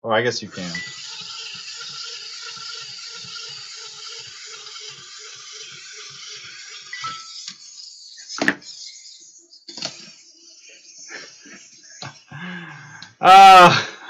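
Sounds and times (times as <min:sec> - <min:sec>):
clockwork toy whirring and ticking: 0:00.5 - 0:13.1.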